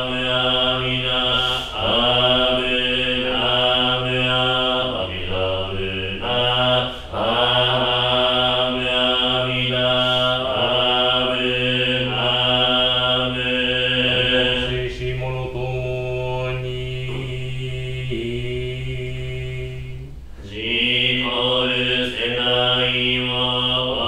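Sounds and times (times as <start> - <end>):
man chanting low held notes: 0.0 - 24.0.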